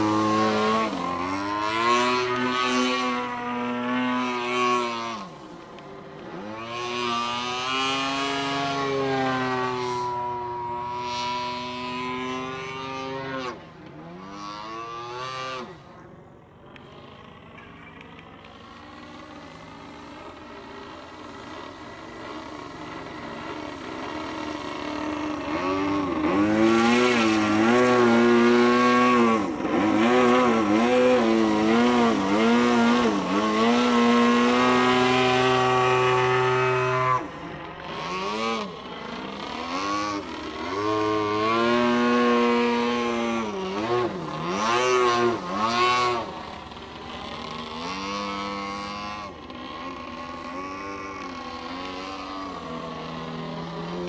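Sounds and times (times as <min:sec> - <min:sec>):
model plane motor and propeller: 0:00.0 - 0:54.0.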